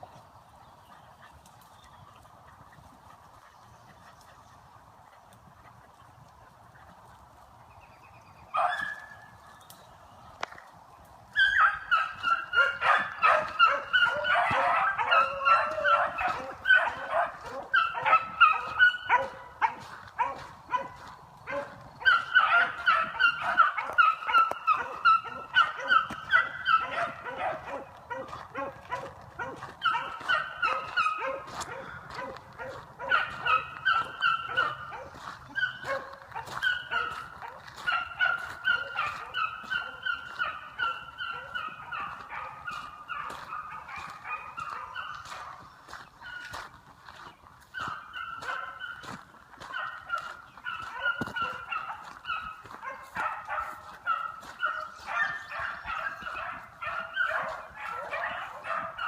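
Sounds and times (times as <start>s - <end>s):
beagles baying: 11.2s - 59.0s.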